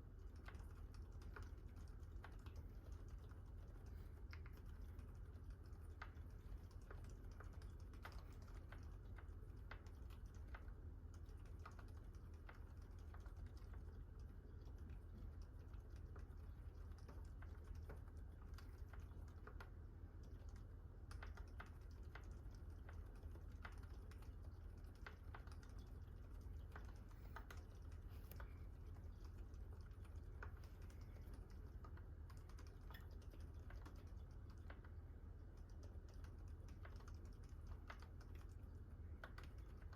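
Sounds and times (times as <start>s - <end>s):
steady low hum: 0.0s - 39.9s
faint keyboard keystrokes: 0.1s - 39.9s.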